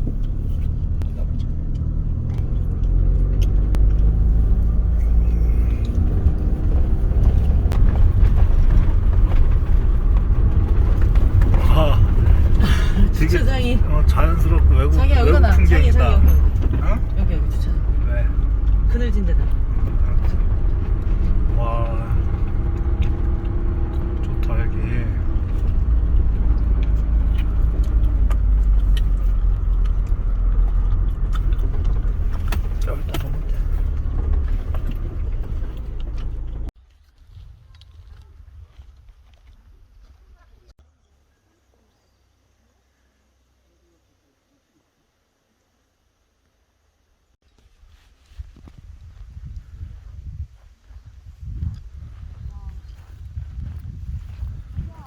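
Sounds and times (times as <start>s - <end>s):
engine and road rumble: 0.0s - 44.3s, 45.9s - 55.0s.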